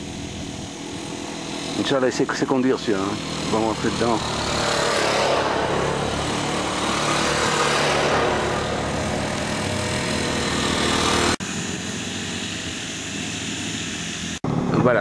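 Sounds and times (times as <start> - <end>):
quad bike engines driving past: 0.0 - 15.0.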